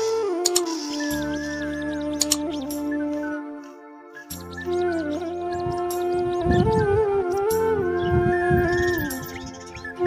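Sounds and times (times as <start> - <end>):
melody over a drone: 0.0 - 10.0.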